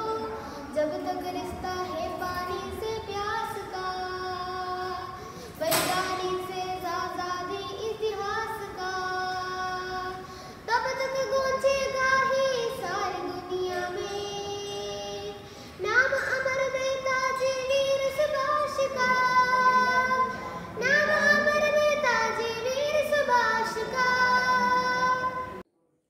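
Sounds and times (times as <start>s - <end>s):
boy singing solo: 0.0s - 25.6s.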